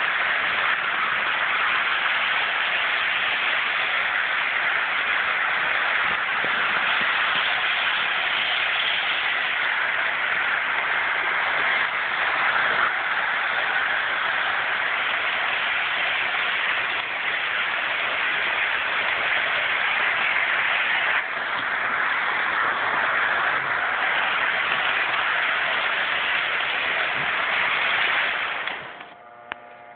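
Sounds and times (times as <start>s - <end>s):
toy train motor whirring: 0.0s - 29.9s.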